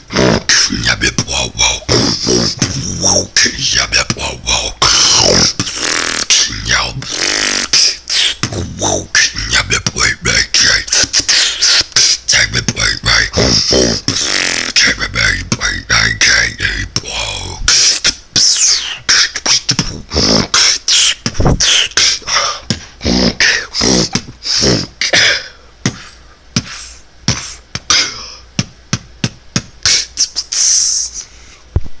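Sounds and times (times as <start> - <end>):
person beatboxing: 0.0 - 31.8.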